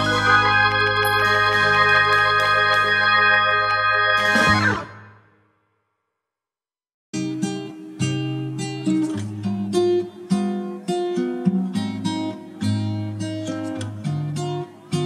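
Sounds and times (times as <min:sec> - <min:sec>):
acoustic guitar music: 0:00.0 - 0:05.3, 0:07.2 - 0:15.0.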